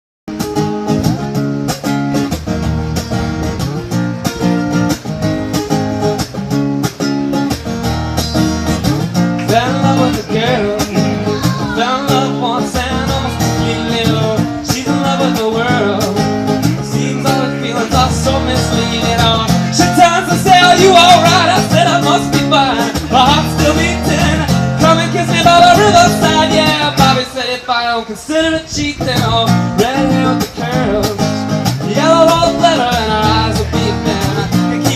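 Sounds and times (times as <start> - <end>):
bass line: 0.3 - 27.3, 28.6 - 34.9
bending guitar melody: 0.3 - 34.9
rhythmic guitar chords: 0.3 - 34.9.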